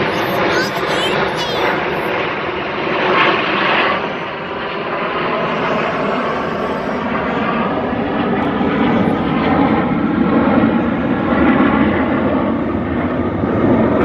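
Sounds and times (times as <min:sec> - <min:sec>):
jet engines roaring overhead: 0:00.0 - 0:14.0.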